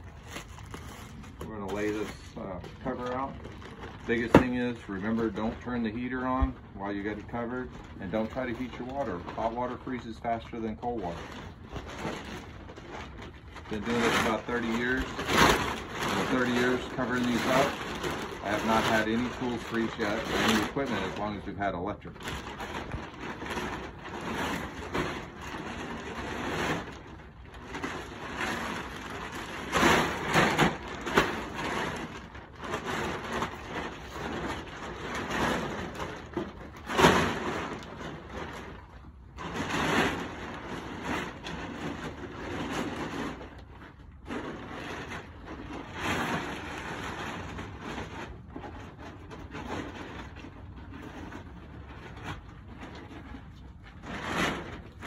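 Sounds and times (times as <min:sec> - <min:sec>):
plastic tarp crinkling: 0:00.0 - 0:55.0.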